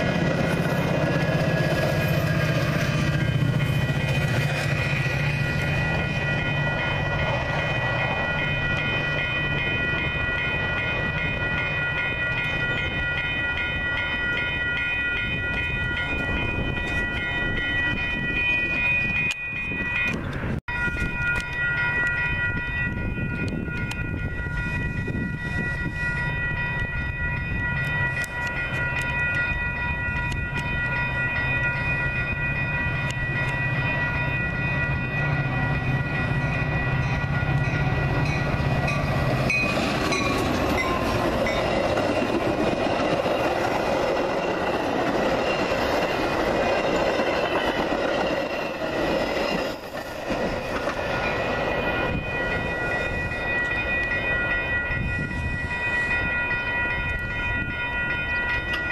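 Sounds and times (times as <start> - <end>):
crossing signal bells ringing: 0.0 - 58.9
train wheels rumbling on rails: 0.0 - 58.9.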